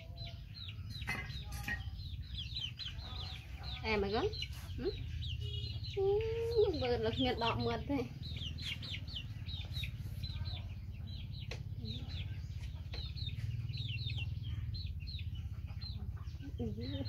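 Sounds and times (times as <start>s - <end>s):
birds peeping: 0.0s - 17.0s.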